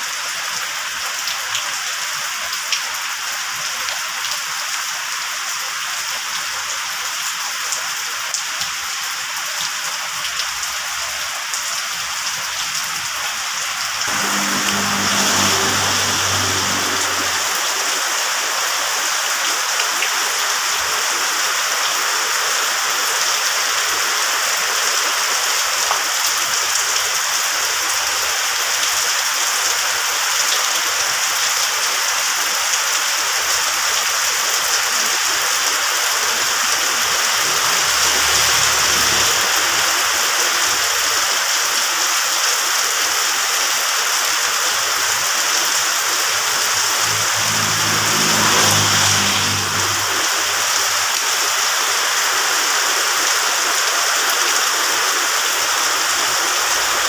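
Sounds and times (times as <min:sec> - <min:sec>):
heavy rain on concrete: 0:00.0 - 0:57.0.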